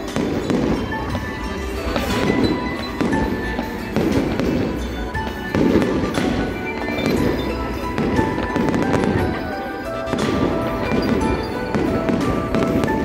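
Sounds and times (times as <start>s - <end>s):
fireworks bursting: 0.0s - 13.0s
music playing: 0.0s - 13.0s.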